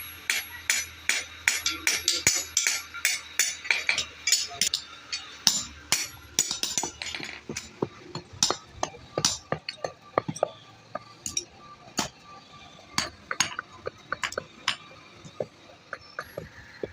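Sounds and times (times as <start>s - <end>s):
hammer tapping metal: 0.0s - 12.2s, 13.0s - 16.9s.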